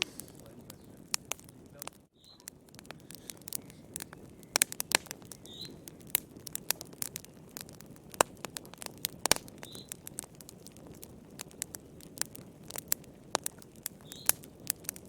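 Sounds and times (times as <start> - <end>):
hiss of burning logs: 0.0 - 15.0
wood fire crackling: 0.0 - 15.0.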